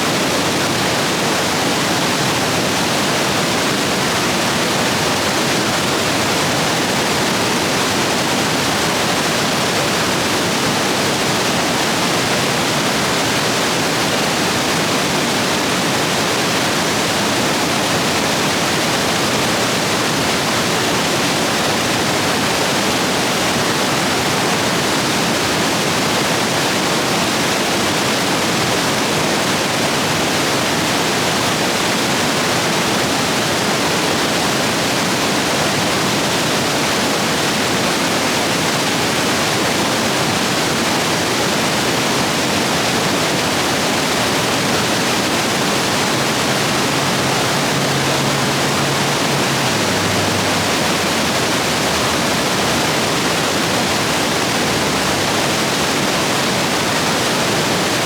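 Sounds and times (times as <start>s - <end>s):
stream rapids rushing: 0.0s - 58.0s.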